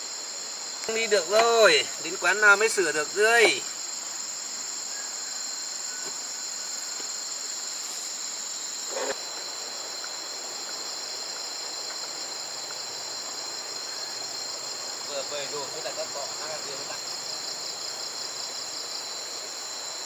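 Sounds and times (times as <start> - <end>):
insect chorus chirring: 0.0 - 20.0.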